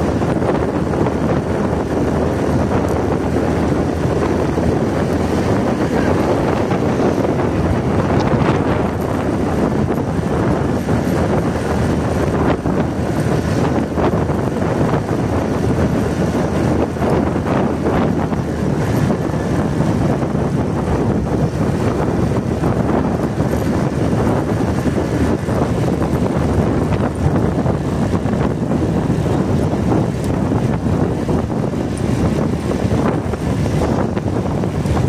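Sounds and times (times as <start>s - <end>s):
motorcycle engine and road noise: 0.0s - 35.0s
wind rushing over microphone: 0.0s - 35.0s.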